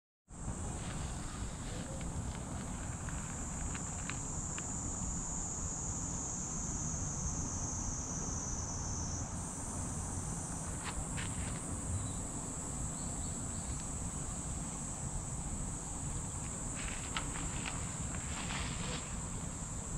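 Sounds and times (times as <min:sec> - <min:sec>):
insects chorus: 0:00.3 - 0:19.9.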